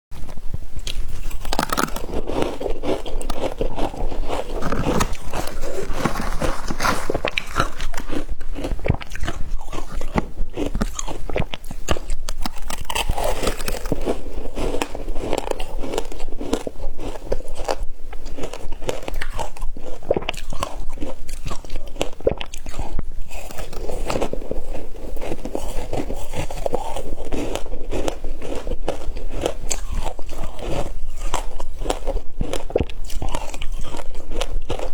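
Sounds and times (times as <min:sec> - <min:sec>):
crunching and chewing ice: 0:00.2 - 0:34.9.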